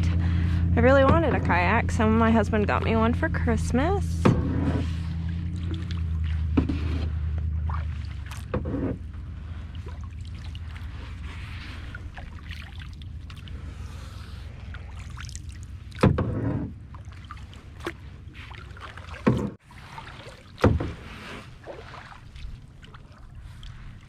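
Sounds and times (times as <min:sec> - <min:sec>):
steady low rumble: 0:00.0 - 0:20.2
kayak paddle strokes in water: 0:00.2 - 0:24.0.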